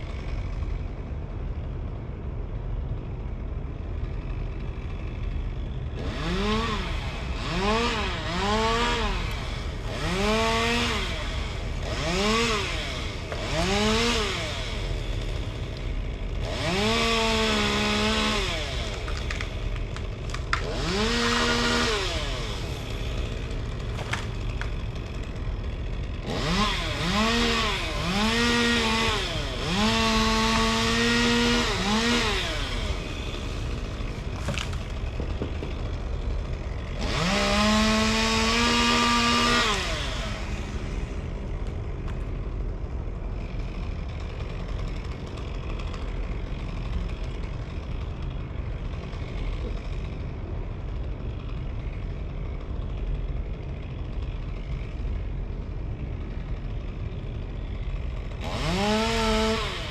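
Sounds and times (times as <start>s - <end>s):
chainsaw revving: 0.0s - 0.8s, 4.0s - 59.9s.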